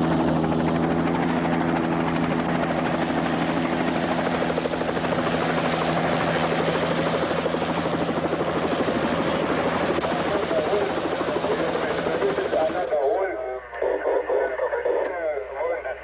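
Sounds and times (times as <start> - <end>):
rotor blades beating: 0.0 - 13.0
helicopter engine hum: 0.0 - 16.0.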